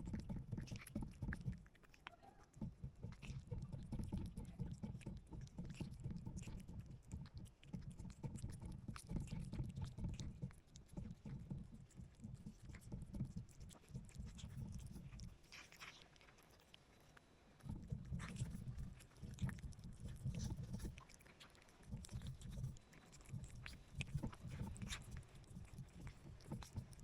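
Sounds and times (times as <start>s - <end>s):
cat chewing food: 0.0s - 27.0s.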